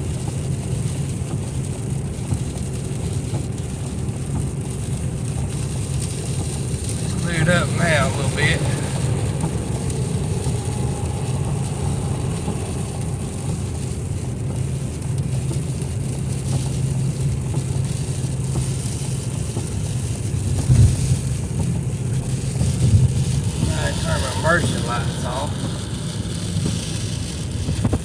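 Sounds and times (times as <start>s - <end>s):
car engine and tyres droning: 0.0s - 28.0s.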